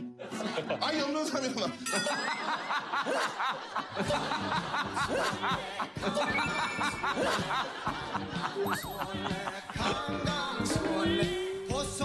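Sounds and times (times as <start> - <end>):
men laughing: 0.0 - 11.1
light background music: 0.0 - 12.0.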